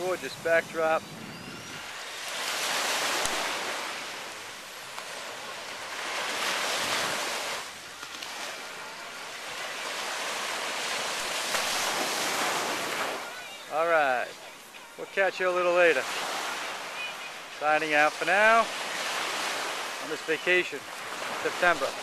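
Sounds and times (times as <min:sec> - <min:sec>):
small surf breaking on beach: 0:00.0 - 0:22.0.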